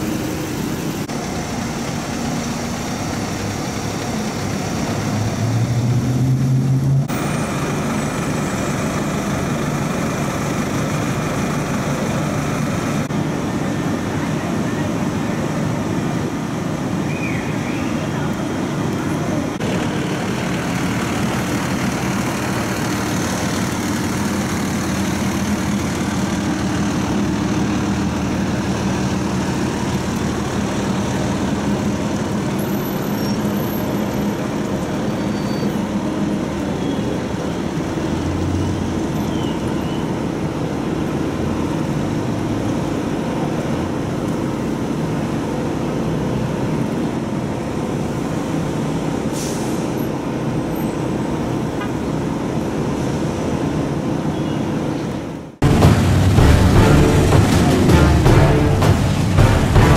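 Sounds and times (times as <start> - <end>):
city street traffic: 0.0 - 59.9
diesel engines idling: 0.0 - 59.9.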